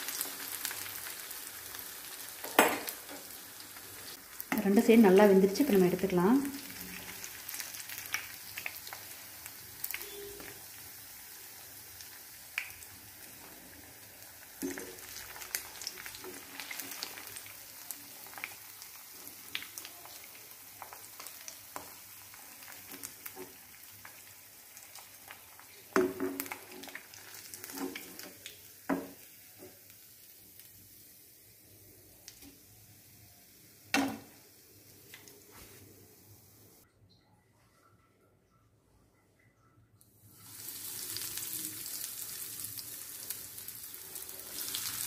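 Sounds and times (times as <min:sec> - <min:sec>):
food frying in oil: 0:00.0 - 0:36.8, 0:40.3 - 0:45.0.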